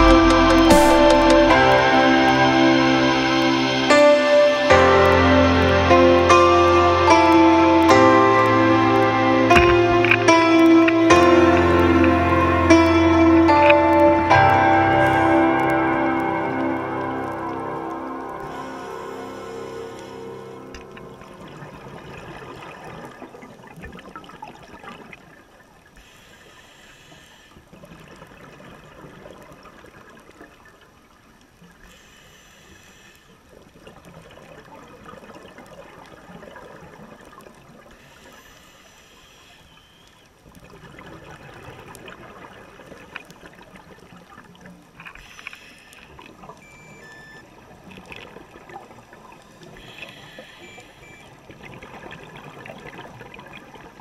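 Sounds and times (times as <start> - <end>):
low wash of water: 0.0 - 54.0
underwater exhaust bubbles: 4.9 - 54.0.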